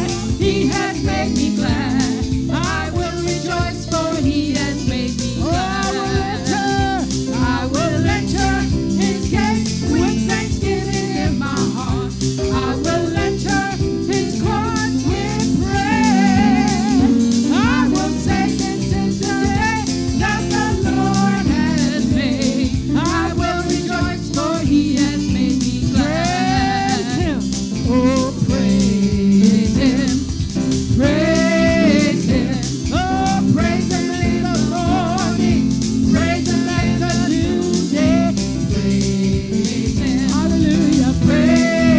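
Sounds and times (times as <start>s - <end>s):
instrumental backing with beat: 0.0s - 41.9s
person singing: 0.0s - 41.9s.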